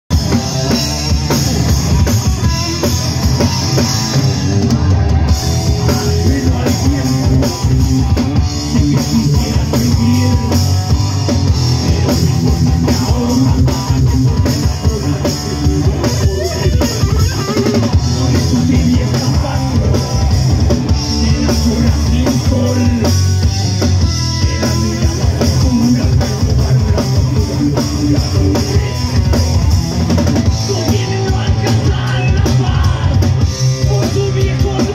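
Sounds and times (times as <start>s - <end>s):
drum kit: 0.1s - 34.9s
electric bass: 0.1s - 34.9s
electric guitar: 0.1s - 34.9s.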